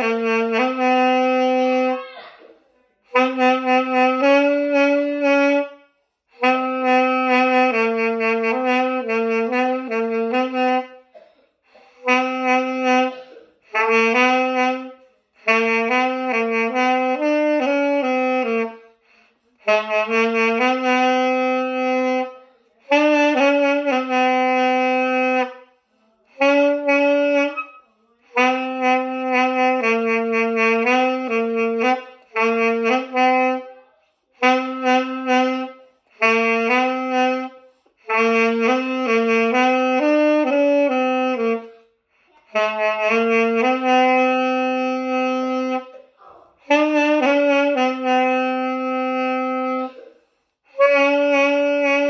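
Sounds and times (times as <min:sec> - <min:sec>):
saxophone melody: 0:00.0 - 0:52.0.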